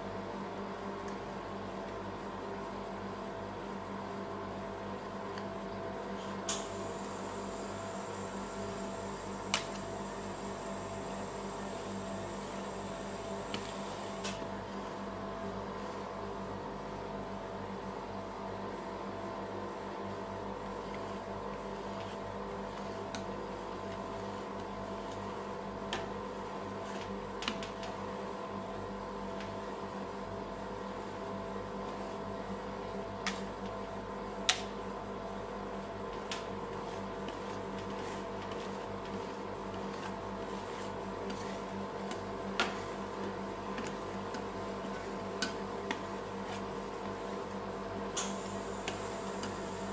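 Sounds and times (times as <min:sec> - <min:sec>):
refrigeration unit humming: 0:00.0 - 0:49.9.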